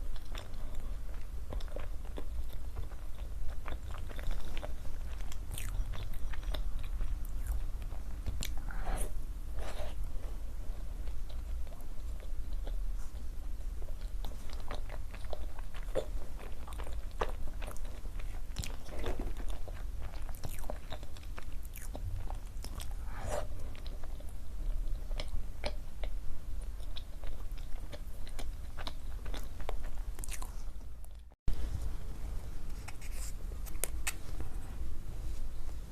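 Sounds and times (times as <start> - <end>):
person chewing food: 0.0 - 31.3.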